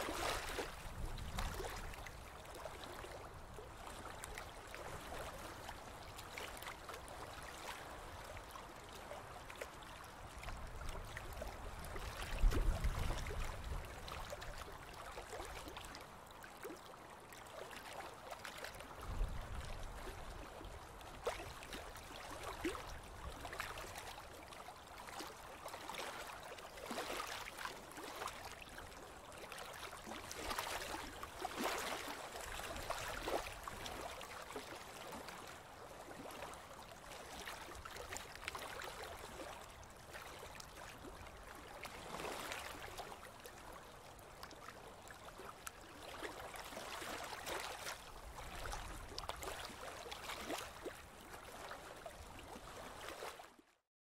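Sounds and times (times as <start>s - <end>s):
river water lapping and gurgling: 0.0s - 53.8s.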